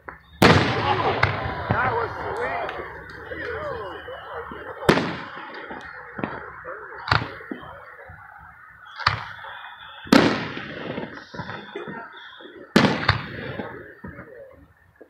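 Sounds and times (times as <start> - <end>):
fireworks booming: 0.0 - 14.3
rumble after fireworks: 0.0 - 15.0.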